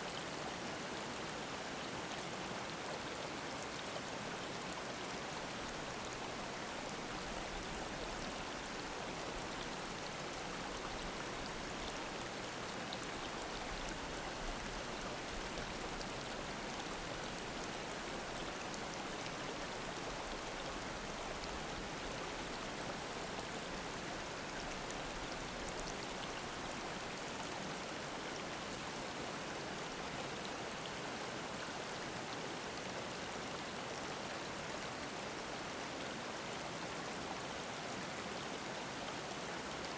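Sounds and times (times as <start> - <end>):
stream babbling over rocks: 0.1 - 39.9.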